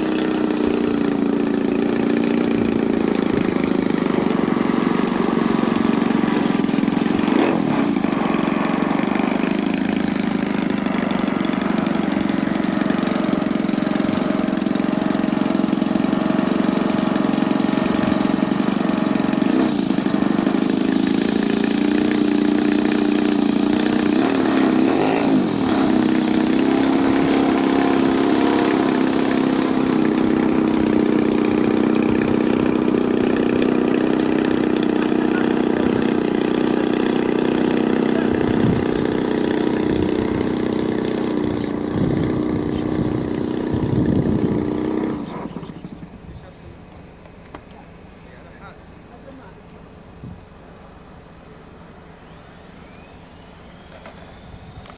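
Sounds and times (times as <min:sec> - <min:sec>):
model aircraft engine droning: 0:00.0 - 0:54.9.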